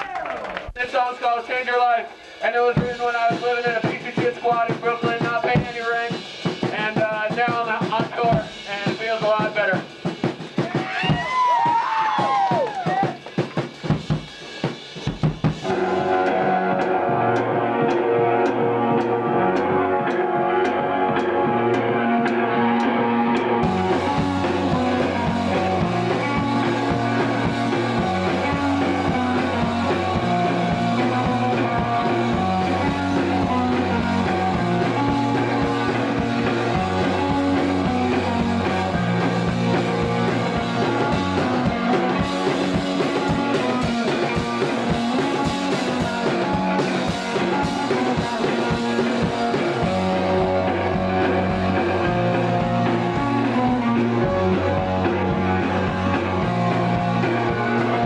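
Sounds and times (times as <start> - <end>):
guitar: 0.0 - 58.0
rock band playing live: 0.7 - 58.0.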